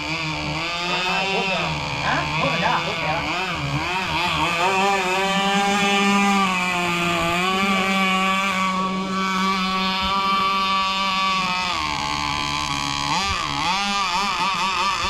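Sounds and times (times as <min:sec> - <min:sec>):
two-stroke boat engine revving: 0:00.0 - 0:15.0.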